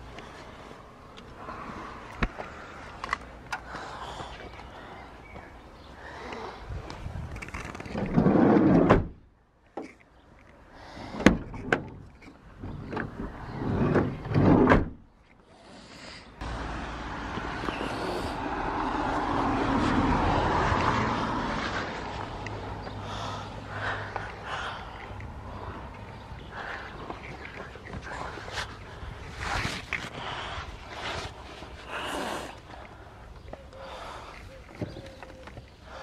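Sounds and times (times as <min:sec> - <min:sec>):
steady outdoor noise: 0:00.0 - 0:36.0.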